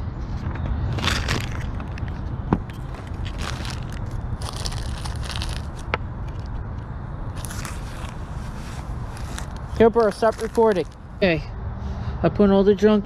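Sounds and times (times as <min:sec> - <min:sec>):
items rustling and crunching: 0:00.4 - 0:11.2.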